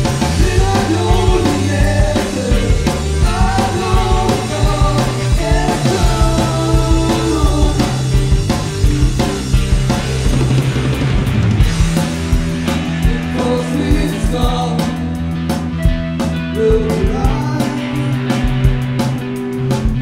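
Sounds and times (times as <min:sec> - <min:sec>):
drum kit with cymbals: 0:00.0 - 0:20.0
electric guitar: 0:00.0 - 0:20.0.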